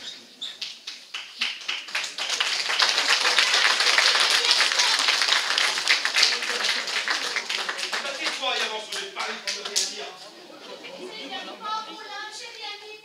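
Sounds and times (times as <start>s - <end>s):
audience applauding: 0.6s - 12.0s.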